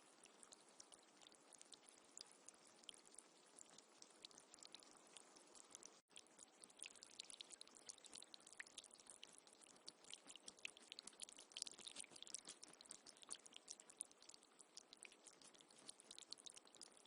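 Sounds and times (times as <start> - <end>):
faint trickling water: 0.0 - 17.0.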